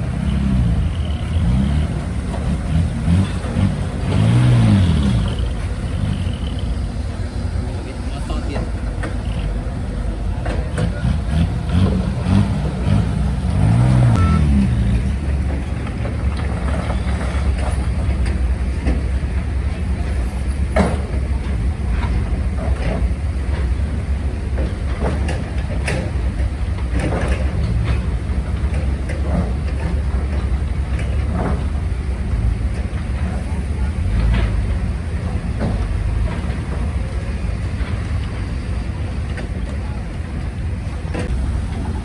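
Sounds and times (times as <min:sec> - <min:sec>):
diesel engine rumbling: 0:00.0 - 0:42.0.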